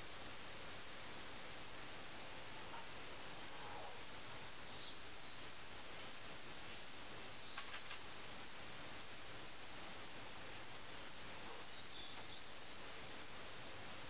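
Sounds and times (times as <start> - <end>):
faint hiss: 0.0 - 14.0.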